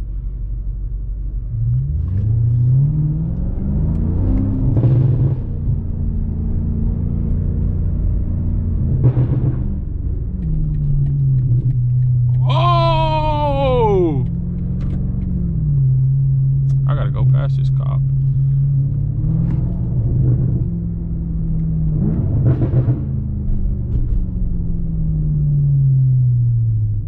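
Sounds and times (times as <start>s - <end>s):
car engine running at low revs: 0.0s - 27.0s.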